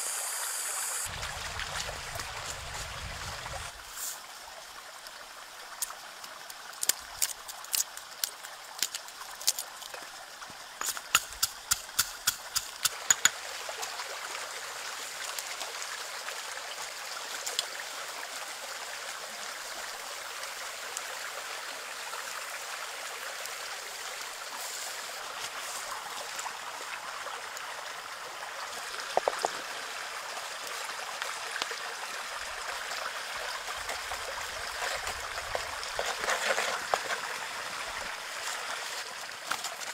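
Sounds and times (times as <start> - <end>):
steady watery hiss: 0.0 - 39.9.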